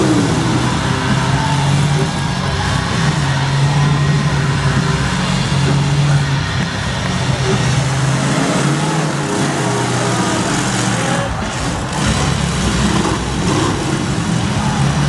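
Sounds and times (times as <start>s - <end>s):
arena noise: 0.0s - 15.0s
car engines revving hard: 0.0s - 15.0s.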